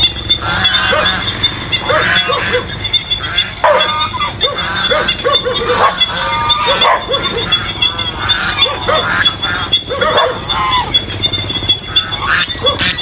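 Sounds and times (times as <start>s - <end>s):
geese honking: 0.0s - 13.0s
insects buzzing: 0.0s - 13.0s.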